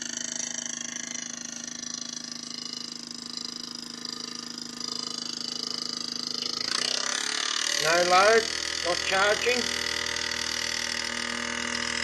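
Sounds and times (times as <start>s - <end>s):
model steam engine whirring: 0.0s - 12.0s.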